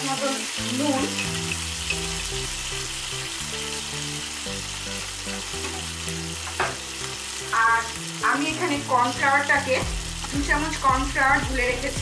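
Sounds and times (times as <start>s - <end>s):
background music with simple melody: 0.0s - 12.0s
sauce sizzling in a frying pan: 0.0s - 12.0s.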